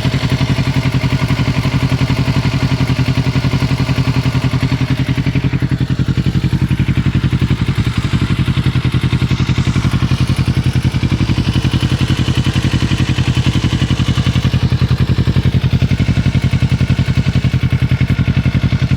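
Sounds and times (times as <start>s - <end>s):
engine ticking: 0.0s - 18.9s
motorcycle engine idling: 0.0s - 18.9s.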